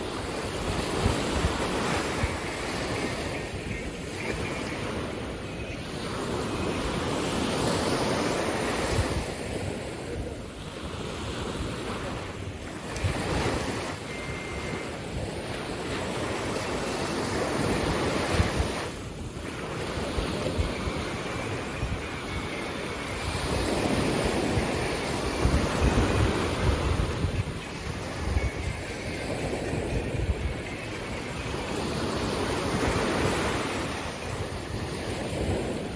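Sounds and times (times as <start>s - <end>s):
waves breaking on beach: 0.0s - 35.9s
wind buffeting microphone: 0.0s - 35.9s.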